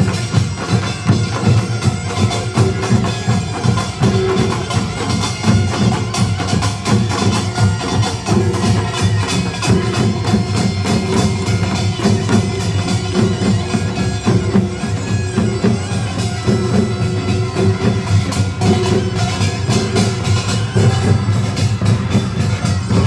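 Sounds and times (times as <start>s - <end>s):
percussion ensemble of gongs and drums: 0.0s - 23.0s.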